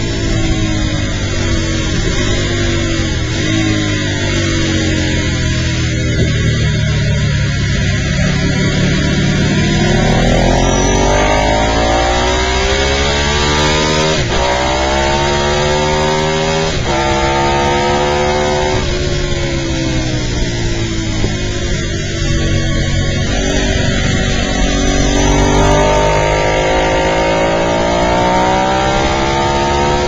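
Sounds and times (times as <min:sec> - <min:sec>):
motorcycle engine accelerating: 0:00.0 - 0:30.0
wind rush: 0:00.0 - 0:30.0.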